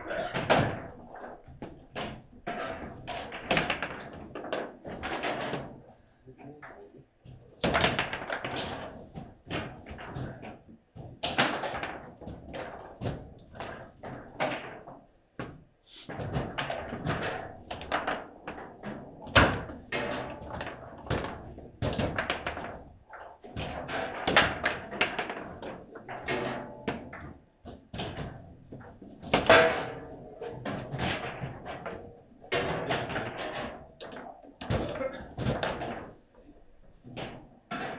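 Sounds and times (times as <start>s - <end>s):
ball clacking off plastic figures: 0.4s - 6.0s, 6.6s - 37.9s.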